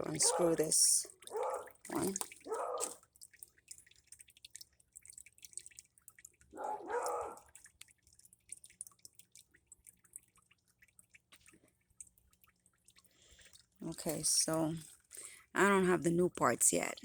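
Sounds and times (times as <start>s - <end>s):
faucet dripping: 0.0s - 17.0s.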